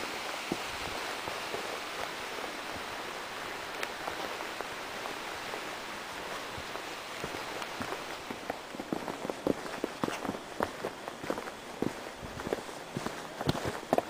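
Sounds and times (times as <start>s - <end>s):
mountain stream rushing: 0.0s - 14.0s
footsteps on dirt trail: 0.5s - 14.0s.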